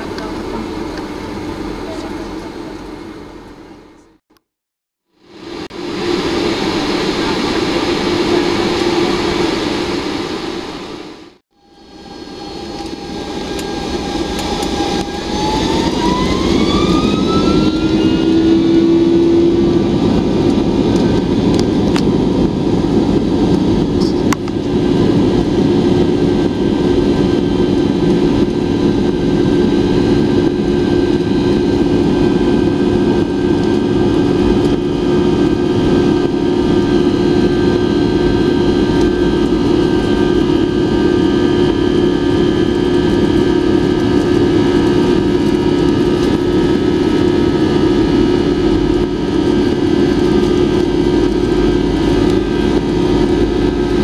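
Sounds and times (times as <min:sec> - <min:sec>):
low cabin rumble: 0:00.0 - 0:04.2, 0:12.2 - 0:54.0
jet engines spooling up: 0:05.2 - 0:54.0.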